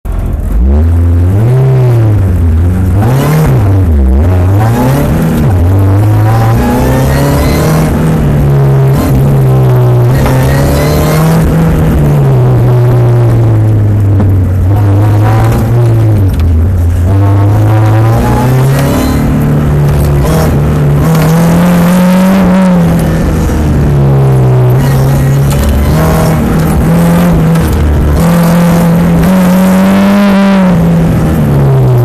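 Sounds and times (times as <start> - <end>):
sports car engine revving: 0.1 - 32.0.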